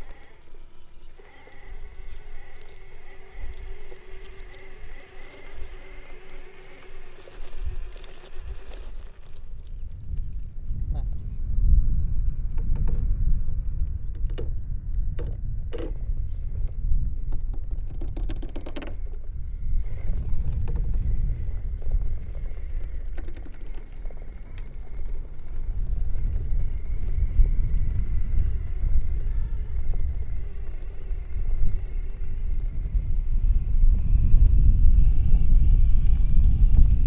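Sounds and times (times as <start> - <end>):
rocks clattering: 0.0 - 10.5, 12.4 - 33.0
high motor whine: 0.0 - 37.0.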